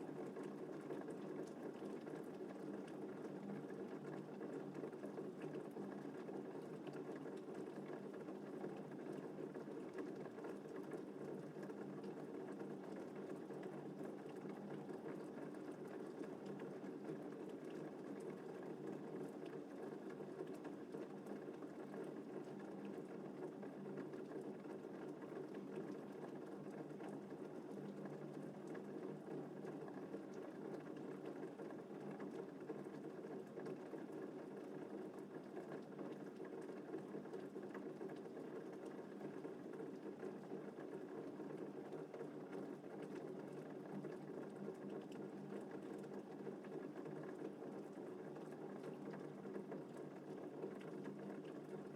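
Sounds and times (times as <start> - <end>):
gentle rain: 0.0 - 51.9.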